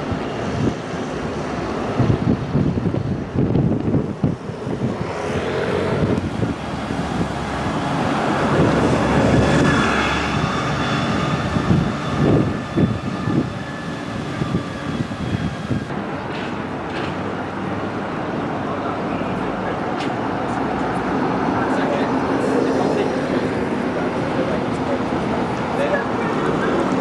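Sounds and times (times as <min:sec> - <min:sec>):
bus engine rumble: 0:00.0 - 0:27.0
traffic noise: 0:00.0 - 0:27.0.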